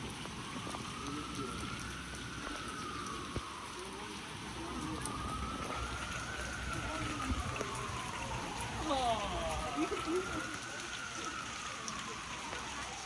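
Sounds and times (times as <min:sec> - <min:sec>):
rain on wet pavement: 0:00.0 - 0:13.0.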